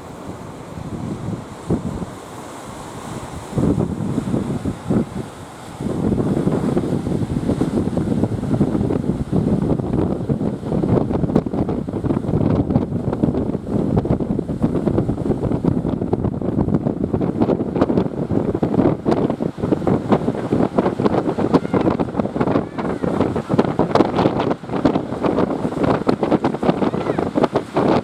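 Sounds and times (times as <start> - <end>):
surf rushing: 0.0 - 28.0
wind buffeting microphone: 0.0 - 28.0.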